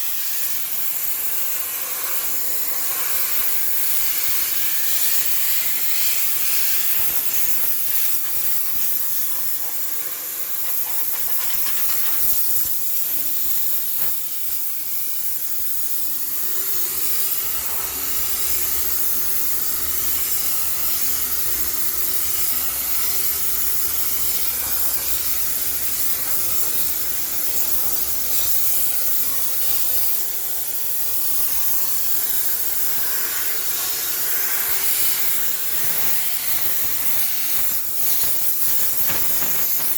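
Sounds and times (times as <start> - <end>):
steam cleaner hissing: 0.0 - 39.9.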